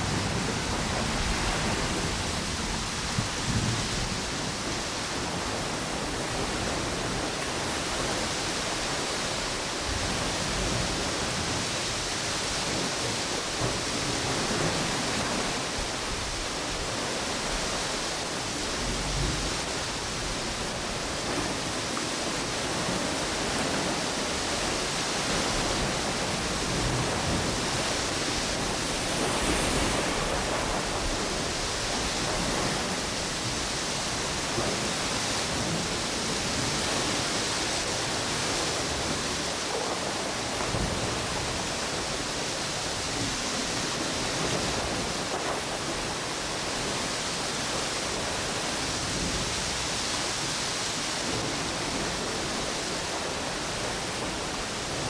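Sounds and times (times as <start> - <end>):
ocean waves: 0.0 - 55.0
storm wind: 0.0 - 55.0.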